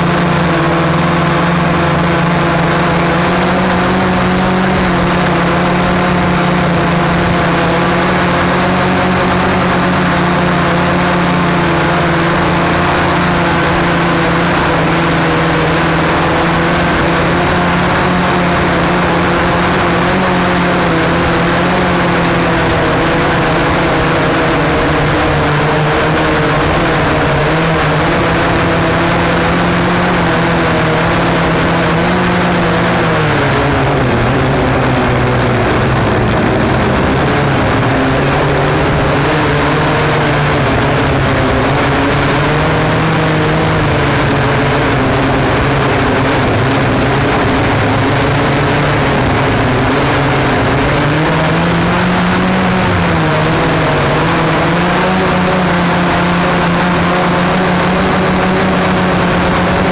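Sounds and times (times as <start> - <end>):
drone motors and propellers whining: 0.0 - 59.9.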